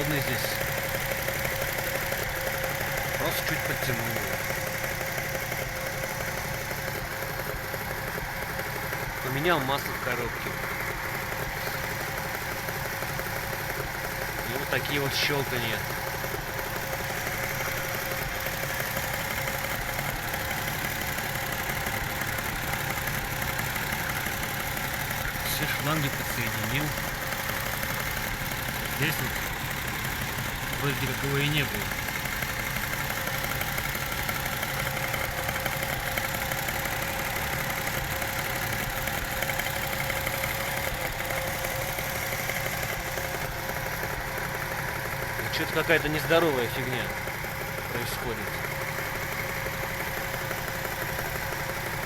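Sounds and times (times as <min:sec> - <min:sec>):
car engine idling: 0:00.0 - 0:52.0
rapid engine clicking: 0:00.0 - 0:52.0.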